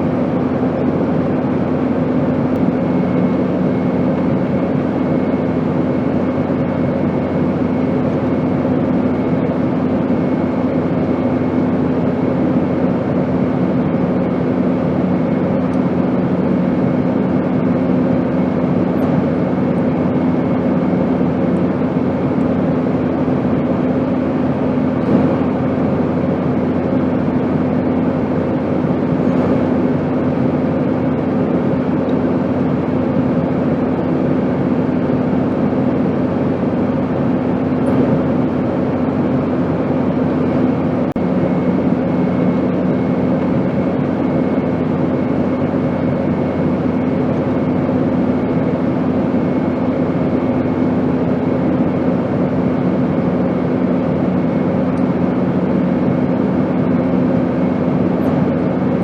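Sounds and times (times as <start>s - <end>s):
airplane drone: 0.0s - 59.0s.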